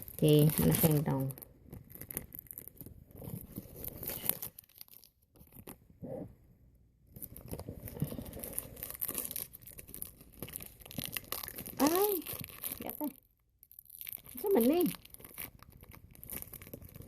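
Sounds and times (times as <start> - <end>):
plastic wrapper crinkling: 0.0 - 5.9, 7.1 - 17.0.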